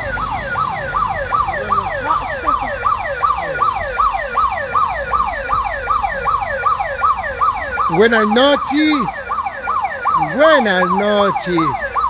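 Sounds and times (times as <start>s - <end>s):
electronic siren yelping: 0.0s - 12.0s
low street rumble: 0.0s - 12.0s.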